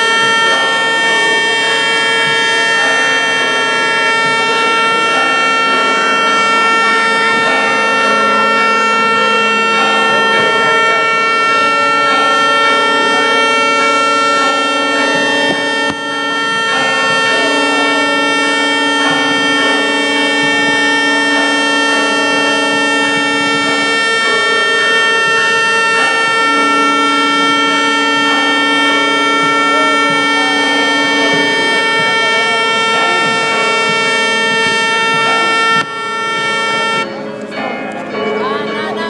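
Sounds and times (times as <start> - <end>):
crowd noise: 0.0 - 39.0
ships' horns sounding: 0.0 - 39.0.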